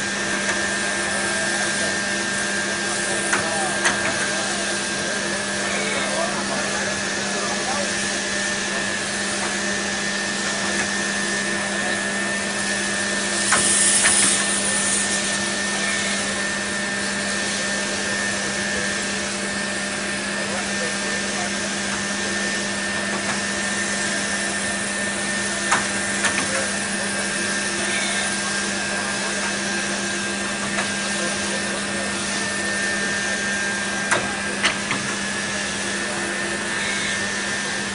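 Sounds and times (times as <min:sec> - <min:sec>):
machine mechanical hum: 0:00.0 - 0:37.9.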